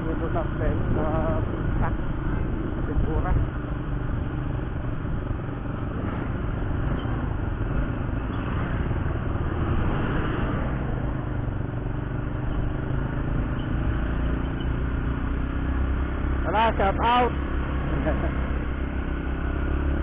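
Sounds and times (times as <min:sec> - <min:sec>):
bus passing: 0:00.0 - 0:20.0
motorcycle engine hum: 0:00.0 - 0:20.0
road noise: 0:00.0 - 0:20.0
wind rumble: 0:00.0 - 0:20.0.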